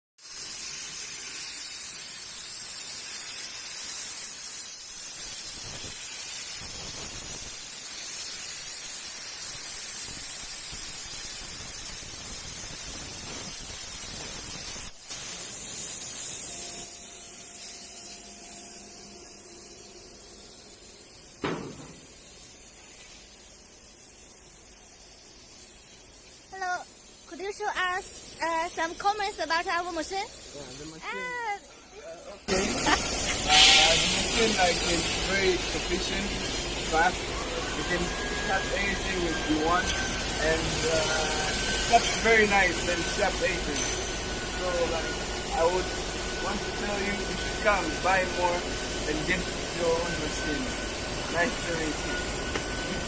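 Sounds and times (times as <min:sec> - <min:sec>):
plasma torch hissing: 0:00.2 - 0:53.0.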